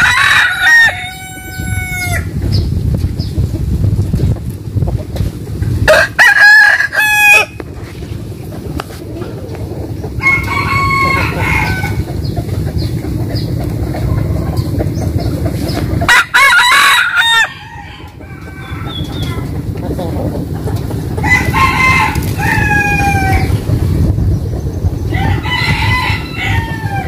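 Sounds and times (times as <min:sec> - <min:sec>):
roosters crowing: 0:00.0 - 0:02.6, 0:05.3 - 0:27.0
steady low rumble: 0:00.0 - 0:27.0.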